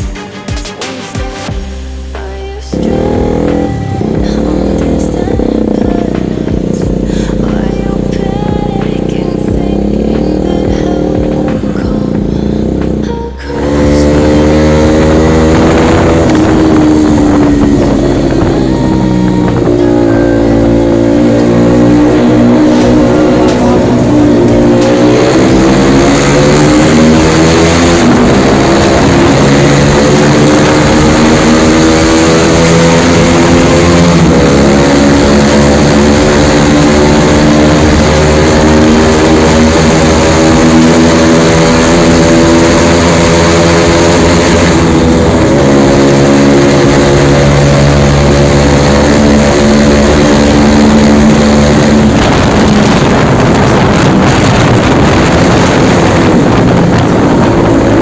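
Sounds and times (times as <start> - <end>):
motorcycle engine accelerating: 1.4 - 58.0.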